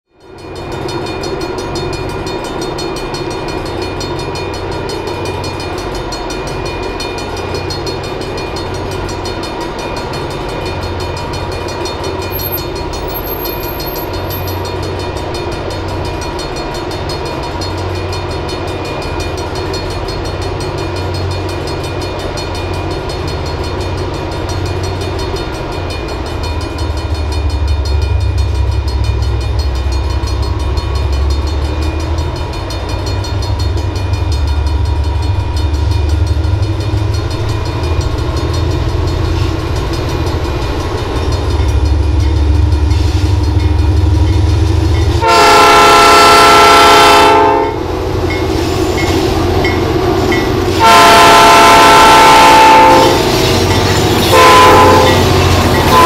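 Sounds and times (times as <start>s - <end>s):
diesel locomotive engine rumble: 0.1s - 56.0s.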